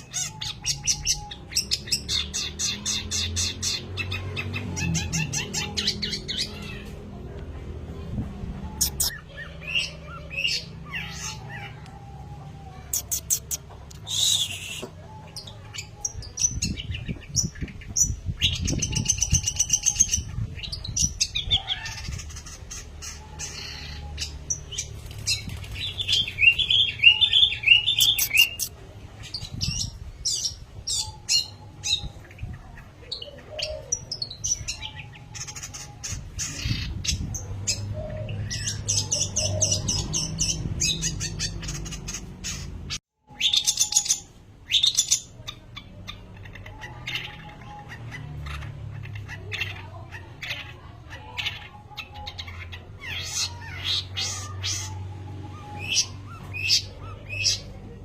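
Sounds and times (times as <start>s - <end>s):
shrike singing chattering song: 0.0s - 58.0s.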